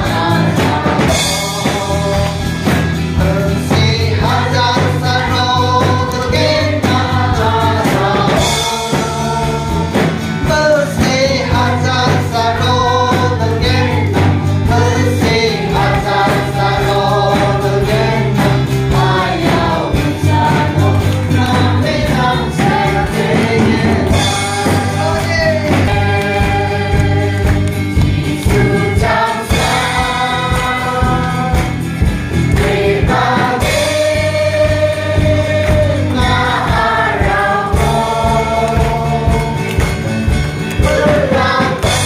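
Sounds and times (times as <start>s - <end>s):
acoustic guitar: 0.0s - 42.0s
bass guitar: 0.0s - 42.0s
congregation singing gospel song: 0.0s - 42.0s
drums keeping steady beat: 0.0s - 42.0s.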